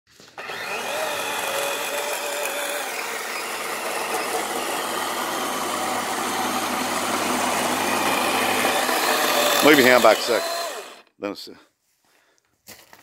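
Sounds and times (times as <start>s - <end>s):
chainsaw cutting wood: 0.2s - 11.1s.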